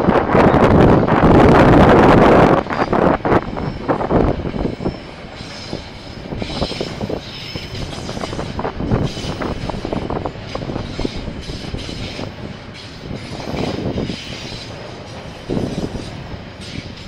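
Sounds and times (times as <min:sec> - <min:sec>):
freight train wagons rumbling: 0:00.0 - 0:17.0
wheels clattering on rails: 0:00.0 - 0:17.0.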